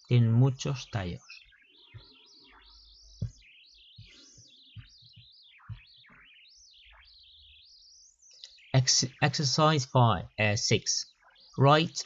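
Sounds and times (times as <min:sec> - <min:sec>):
faint bird song: 0:00.0 - 0:12.0.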